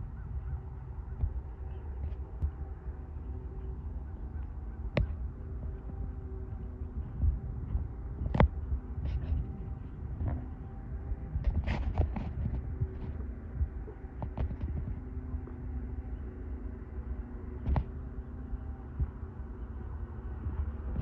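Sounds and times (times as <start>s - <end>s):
faint steady hum: 0.0s - 21.0s
wind buffeting microphone: 0.0s - 21.0s.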